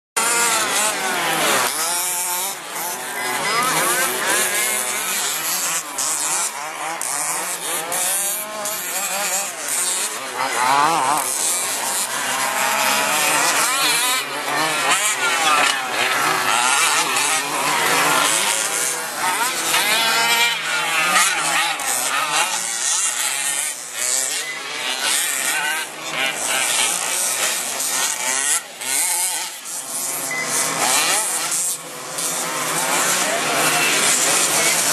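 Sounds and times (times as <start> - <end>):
rc truck motors whining: 0.2 - 34.9.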